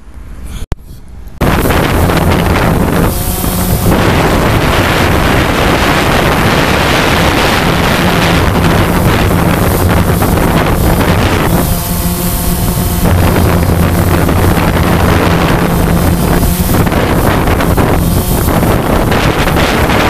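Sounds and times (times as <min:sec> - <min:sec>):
drone propellers buzzing: 0:01.4 - 0:20.0
wind buffeting microphone: 0:01.4 - 0:20.0.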